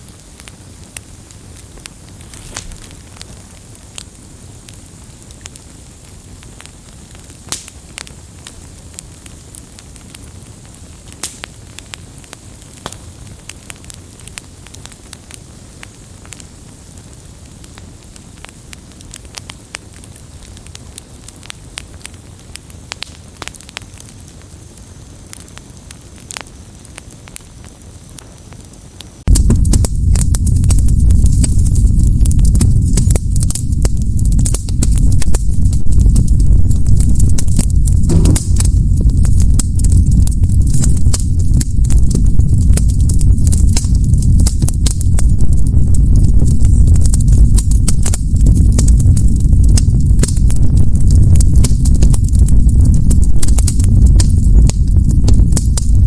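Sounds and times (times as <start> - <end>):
flames rushing: 0.0 - 56.0
wood crackling and popping: 0.0 - 56.0.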